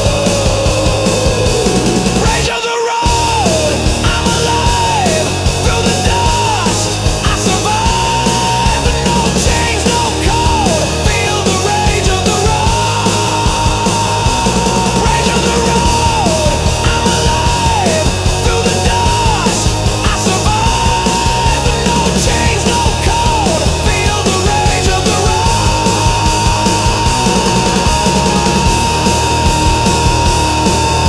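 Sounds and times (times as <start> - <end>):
loud rock music: 0.0 - 31.0
lead line sliding high notes: 3.1 - 31.0.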